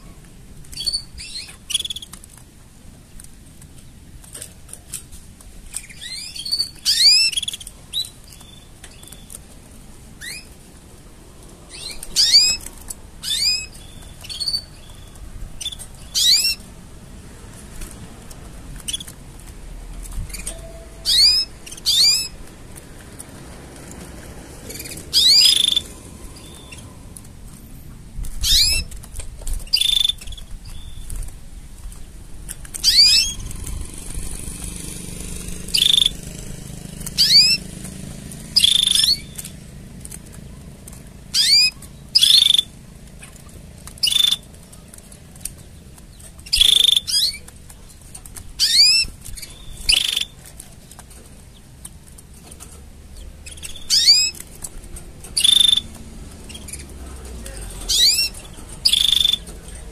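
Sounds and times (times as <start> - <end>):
canary singing: 0.0 - 2.2, 5.7 - 10.8, 11.4 - 31.3, 32.6 - 59.9.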